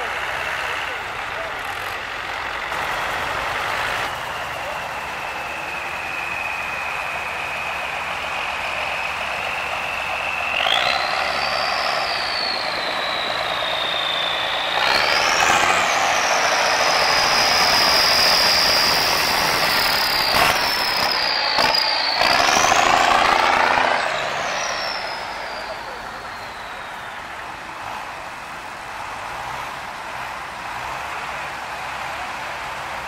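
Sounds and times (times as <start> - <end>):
truck engine revving with whine: 0.0 - 33.0.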